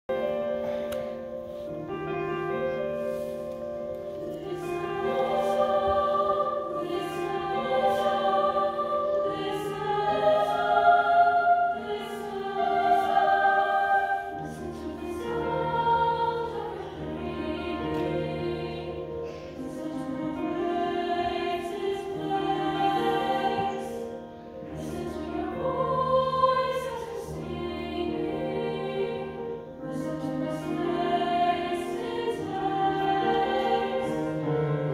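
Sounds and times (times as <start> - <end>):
choir singing: 0.1 - 34.9.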